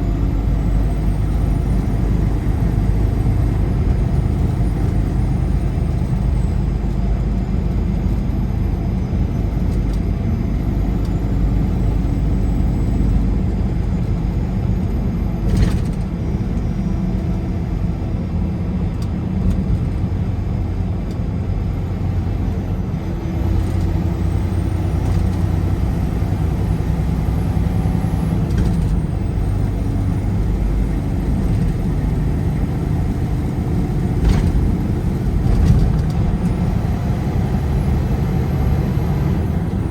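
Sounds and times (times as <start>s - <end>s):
road and engine noise: 0.0s - 39.9s.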